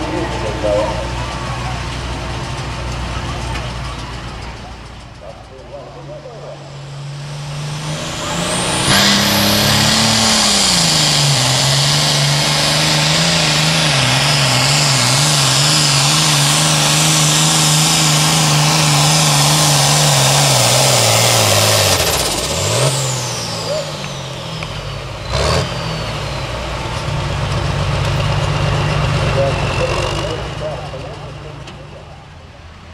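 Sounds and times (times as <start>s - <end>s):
tractor diesel at full throttle: 0.0s - 32.9s.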